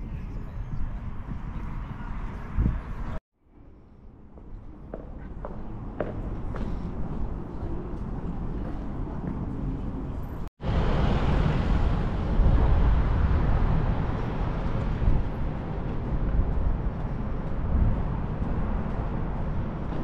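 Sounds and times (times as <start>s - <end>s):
road vehicles rumbling: 0.0s - 20.0s.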